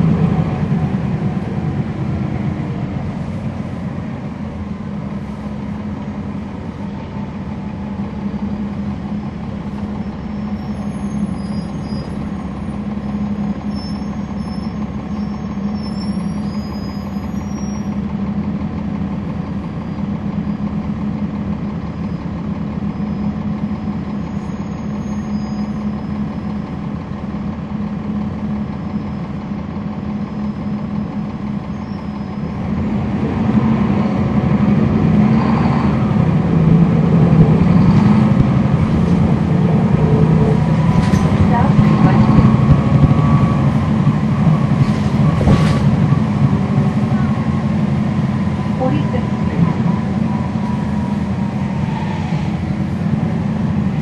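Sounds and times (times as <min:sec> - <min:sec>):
diesel bus engine idling: 0:00.0 - 0:54.0.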